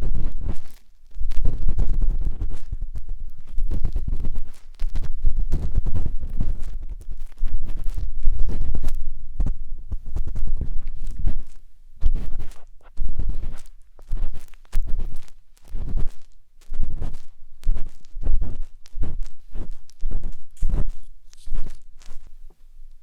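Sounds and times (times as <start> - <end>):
matchstick scraping close up: 0.0 - 9.0, 9.9 - 22.4.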